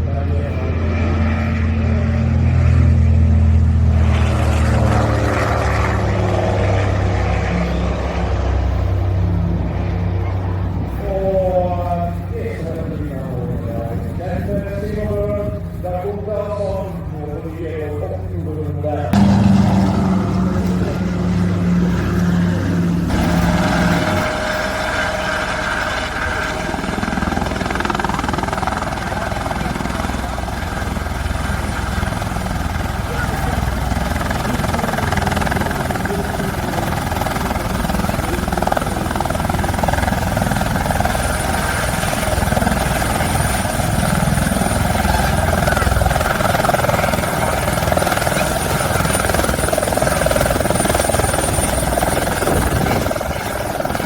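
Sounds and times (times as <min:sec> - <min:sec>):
turbine whine: 0:00.0 - 0:18.3, 0:19.0 - 0:54.0
aircraft engine drone: 0:00.0 - 0:54.0
aircraft passing rush: 0:00.0 - 0:54.0.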